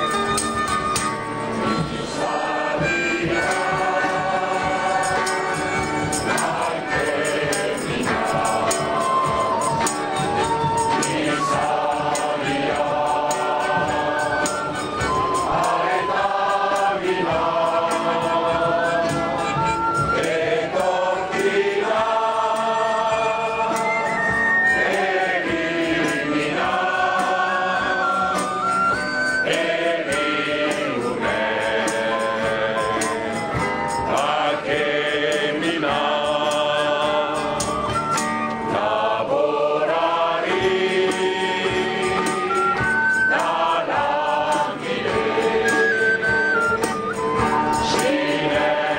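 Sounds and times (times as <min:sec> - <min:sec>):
acoustic guitars: 0:00.0 - 0:48.9
crowd singing in unison: 0:01.6 - 0:48.9.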